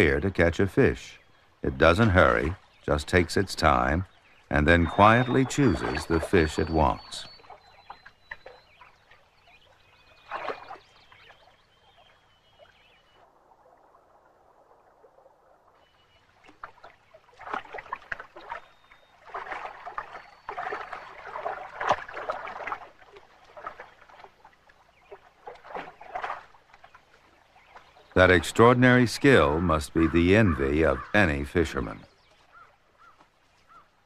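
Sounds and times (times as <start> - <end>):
stream flowing: 0.0 - 34.0
water splashing: 0.0 - 34.0.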